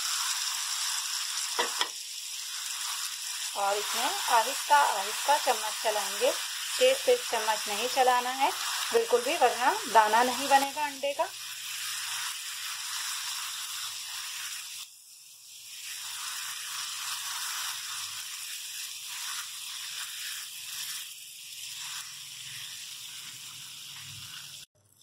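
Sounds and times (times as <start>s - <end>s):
liquid sizzling in hot fat: 0.0s - 25.0s.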